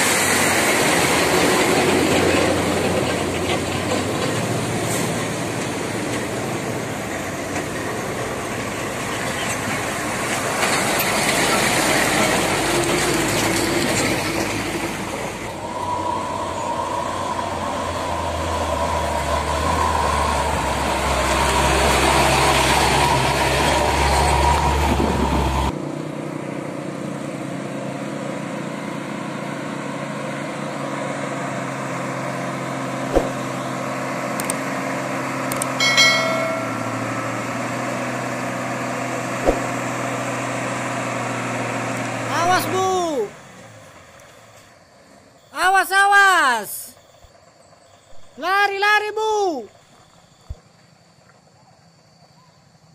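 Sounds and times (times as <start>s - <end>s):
truck engine passing close by: 0.0s - 44.2s
heavy truck engine drone: 0.0s - 45.7s.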